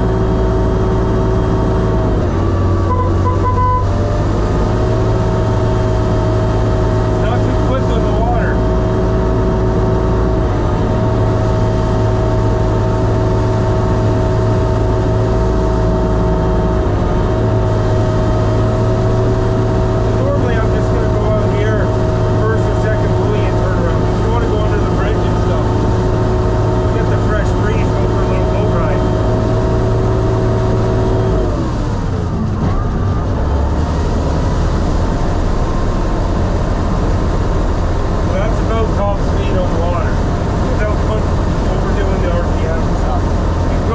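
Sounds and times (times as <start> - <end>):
diesel engine droning: 0.0 - 43.9
water churning and splashing: 0.0 - 43.9.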